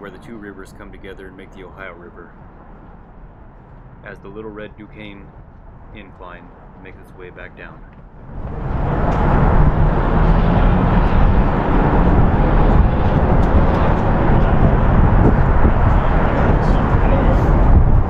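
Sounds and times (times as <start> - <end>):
loud road traffic rumble: 0.0 - 18.0.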